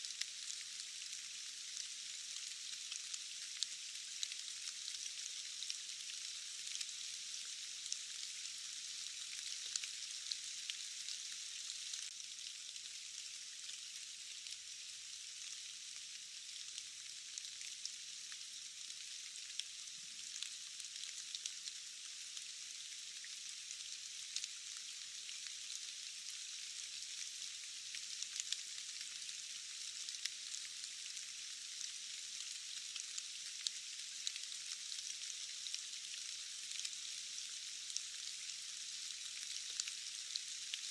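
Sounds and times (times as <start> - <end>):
steady rain: 0.0 - 14.6, 15.3 - 40.9.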